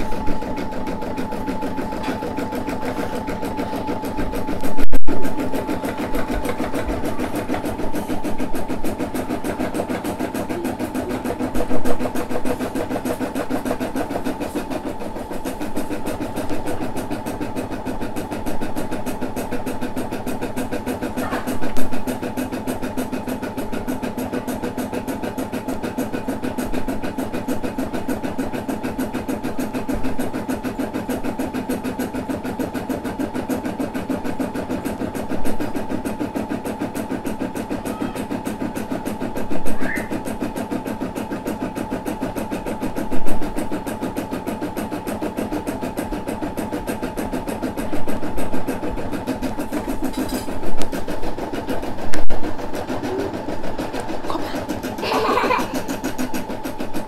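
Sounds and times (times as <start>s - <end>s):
embroidery machine needle stitching: 0.0s - 57.0s
motor humming: 0.0s - 57.0s.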